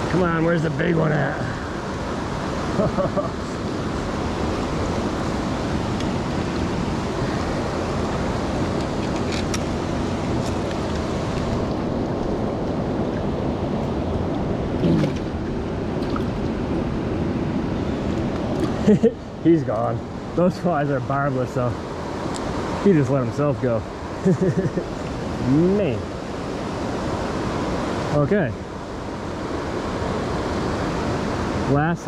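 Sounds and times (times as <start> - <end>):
river rushing over rocks: 0.0 - 32.0.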